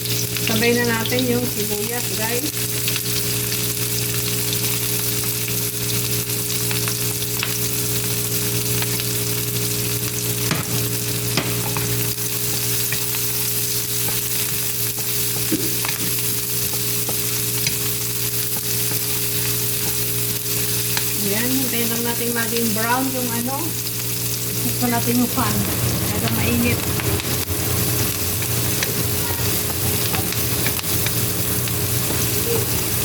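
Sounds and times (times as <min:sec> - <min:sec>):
oil sizzling in a pan: 0:00.0 - 0:33.0.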